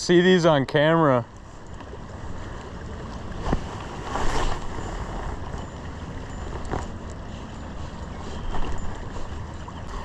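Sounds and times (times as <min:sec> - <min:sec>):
shallow stream running: 0:00.0 - 0:10.0.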